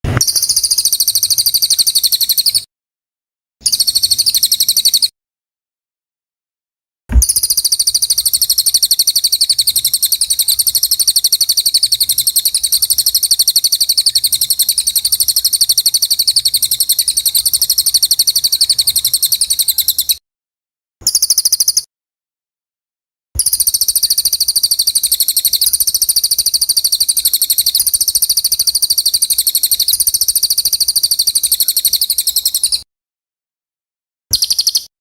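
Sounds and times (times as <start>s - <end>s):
songbird rapid trill: 0.1s - 2.7s, 3.6s - 5.1s, 7.2s - 20.2s, 21.0s - 21.9s, 23.4s - 32.9s, 34.3s - 34.9s.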